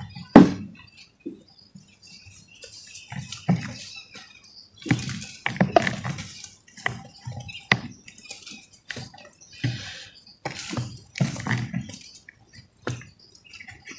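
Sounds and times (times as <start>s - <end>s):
dry dirt crumbling: 2.2s - 13.9s.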